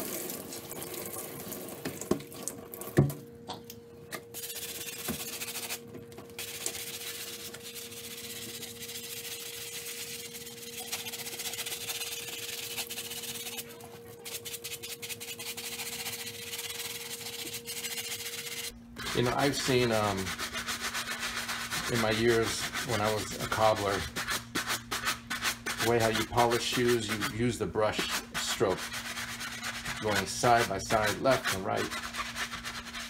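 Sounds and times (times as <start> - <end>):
cloth rubbing wet shoe: 6.4 - 33.0.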